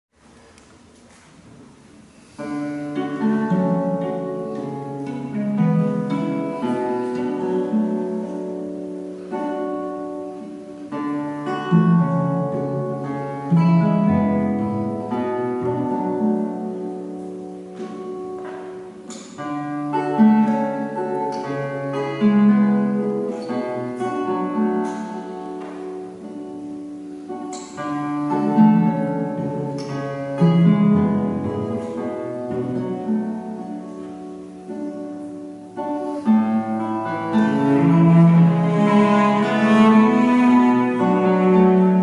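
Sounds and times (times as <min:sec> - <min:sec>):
plucked classical guitar: 0:00.4 - 0:42.0
bowed cello notes: 0:02.4 - 0:42.0.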